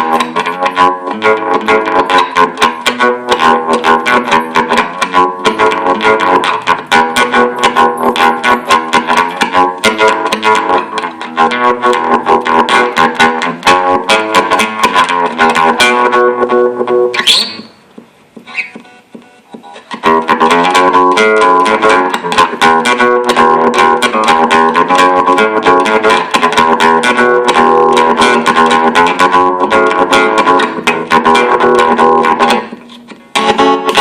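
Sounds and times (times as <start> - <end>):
distorted guitar picking and strumming: 0.0 - 34.0.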